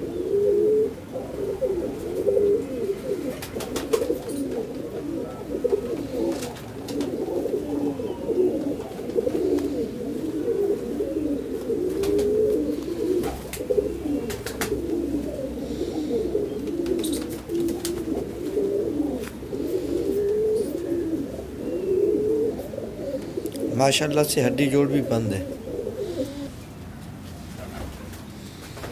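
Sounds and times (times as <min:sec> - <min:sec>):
pigeons cooing: 0:00.0 - 0:28.9.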